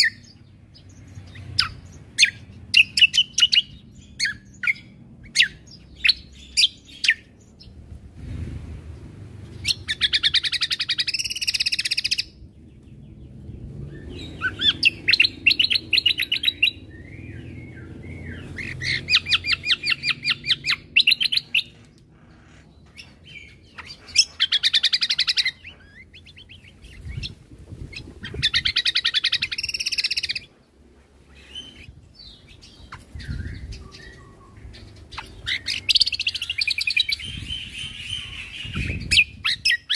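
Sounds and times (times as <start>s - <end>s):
bird chirps: 0.0s - 7.8s, 9.5s - 39.9s.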